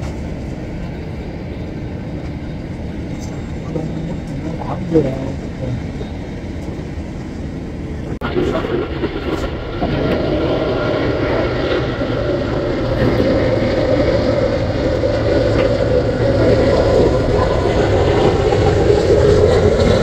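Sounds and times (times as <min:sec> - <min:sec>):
jet engine rushing drone: 0:00.0 - 0:20.0.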